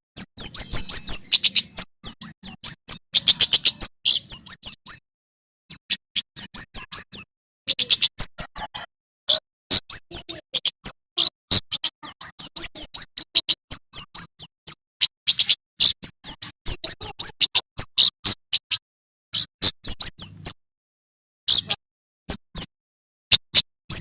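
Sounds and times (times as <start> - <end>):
songbird fast chattering song: 0.2 - 5.0, 5.7 - 20.6, 21.5 - 22.7.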